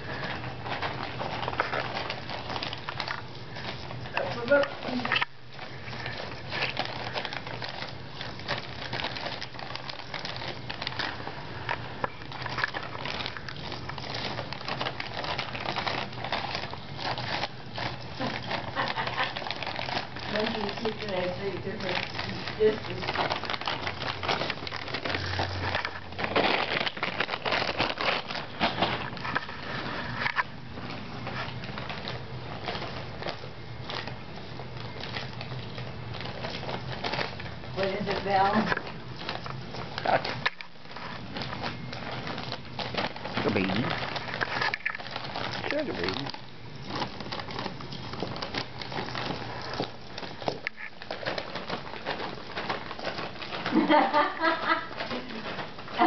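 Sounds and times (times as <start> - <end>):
crinkly paper toy bag rustling: 0.0 - 56.0.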